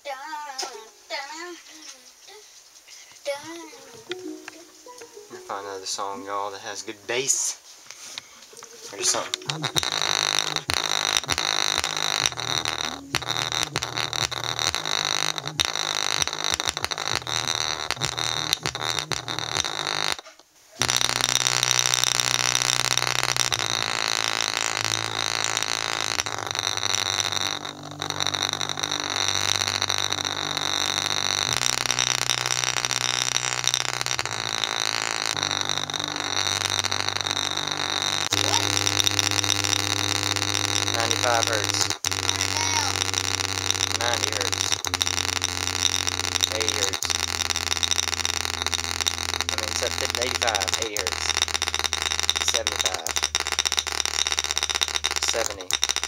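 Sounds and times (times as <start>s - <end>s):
golf ball buzzing and rattling: 8.6s - 56.0s
speaker playing hard bass: 8.9s - 20.1s, 20.8s - 56.0s.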